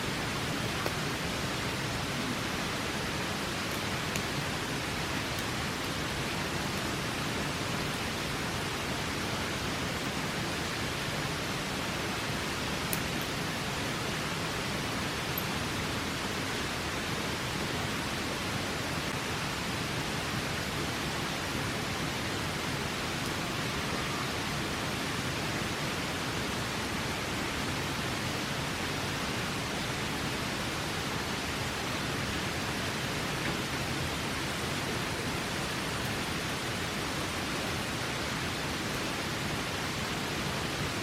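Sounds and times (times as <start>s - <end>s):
river rushing: 0.0s - 41.0s.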